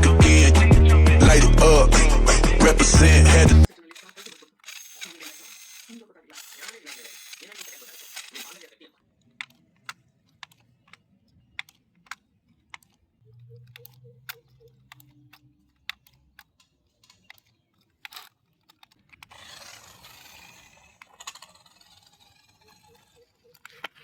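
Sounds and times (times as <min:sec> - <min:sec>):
small parts clicking: 0:03.6 - 0:24.0.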